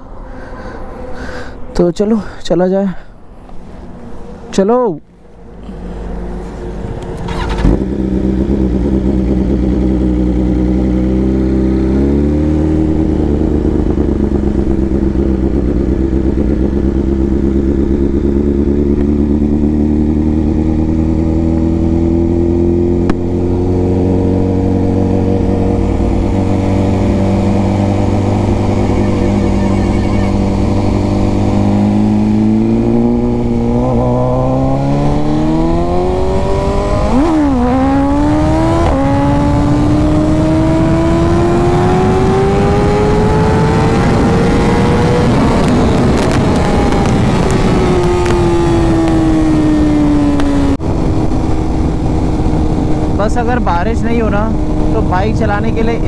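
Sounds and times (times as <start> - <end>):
motorcycle engine accelerating: 5.4 - 56.0.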